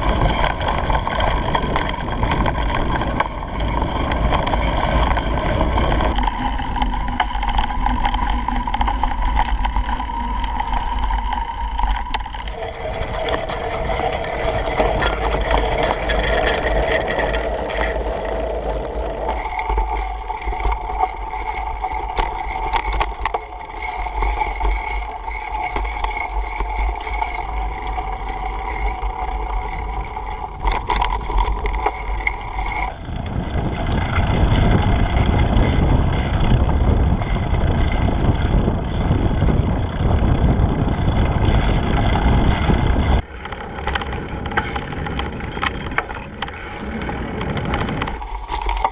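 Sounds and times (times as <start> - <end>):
steady tones changing pitch: 0.0 - 48.9
wind rumbling on microphone: 0.0 - 48.9.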